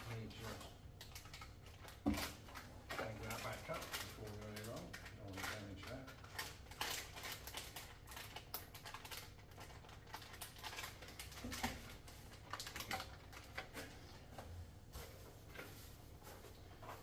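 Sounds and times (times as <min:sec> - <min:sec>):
packaging and paper rustling: 0:00.0 - 0:14.3.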